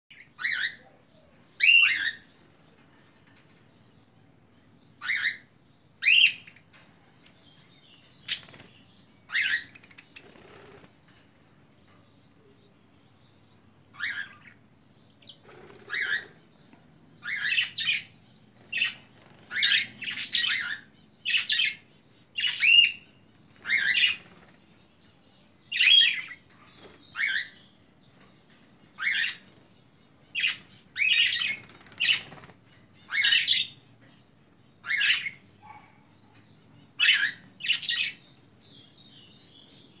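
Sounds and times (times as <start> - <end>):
budgerigars chirping and squawking: 0.1 - 2.7, 5.0 - 12.0, 13.9 - 16.6, 17.2 - 24.7, 25.7 - 38.4.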